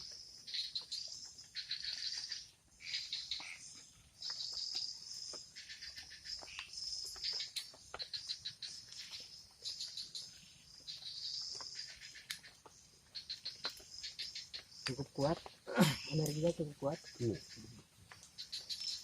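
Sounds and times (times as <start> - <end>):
insects chirping in pulsed trills: 0.0 - 19.0.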